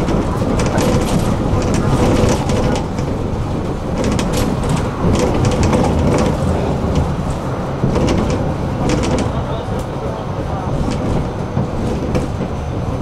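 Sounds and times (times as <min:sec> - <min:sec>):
tram clicks and rattles: 0:00.0 - 0:13.0
tram rumbling on rails: 0:00.0 - 0:13.0.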